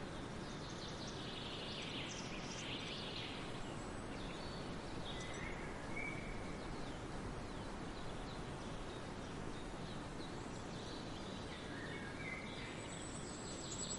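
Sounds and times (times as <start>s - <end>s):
faint bird calls and chirps: 0.0s - 13.9s
steady noisy background: 0.0s - 13.9s.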